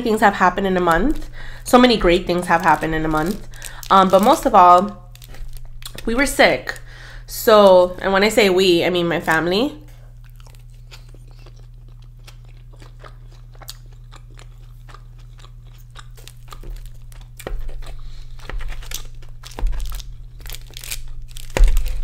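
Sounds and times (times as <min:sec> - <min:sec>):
steady low hum: 0:00.0 - 0:22.0
wet crunchy chewing: 0:00.9 - 0:06.9, 0:09.9 - 0:22.0.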